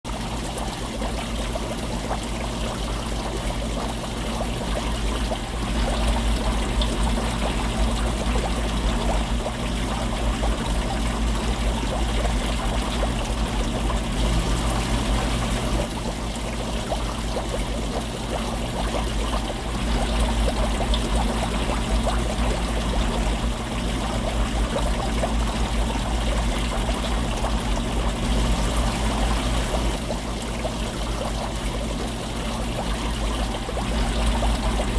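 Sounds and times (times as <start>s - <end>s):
steady low hum: 0.1s - 34.9s
underwater bubbling water: 0.1s - 34.9s.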